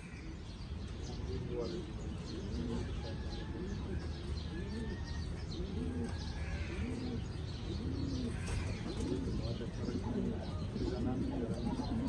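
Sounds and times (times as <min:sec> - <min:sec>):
pigeons cooing: 0:00.0 - 0:12.0
small birds chirping: 0:00.0 - 0:12.0.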